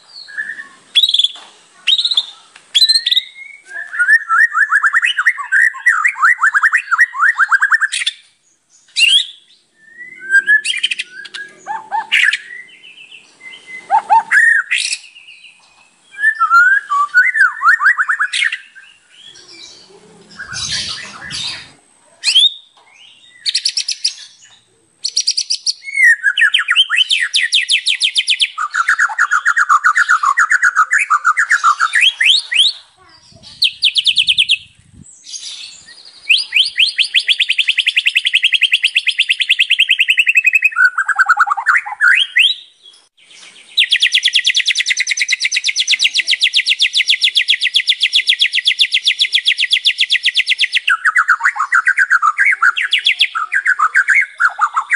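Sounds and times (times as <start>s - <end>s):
songbird singing whistles and trills: 0.0s - 54.9s.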